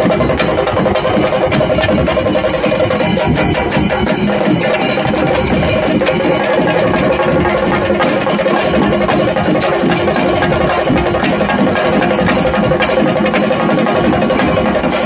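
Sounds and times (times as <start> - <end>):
drums beaten with sticks: 0.0 - 15.0
steady held tone: 0.0 - 15.0.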